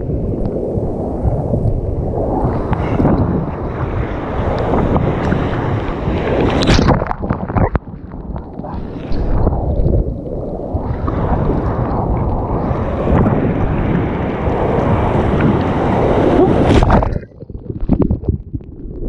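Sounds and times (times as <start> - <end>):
surf rushing around kayak: 0.0 - 18.1
wave crashing: 0.0 - 18.4
wind buffeting microphone: 0.0 - 19.0.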